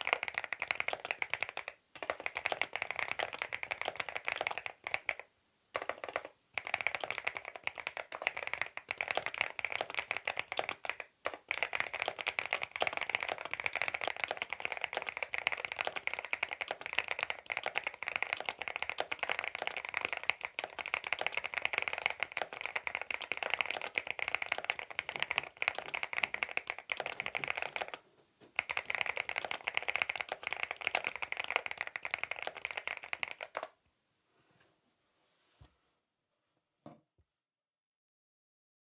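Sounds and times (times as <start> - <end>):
mechanical keyboard typing: 0.0 - 5.2, 5.8 - 28.0, 28.6 - 33.8.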